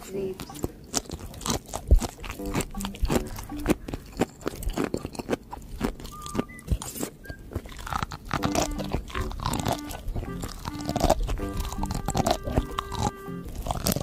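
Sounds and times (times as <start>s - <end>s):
crunchy seaweed chewing: 0.0s - 14.0s.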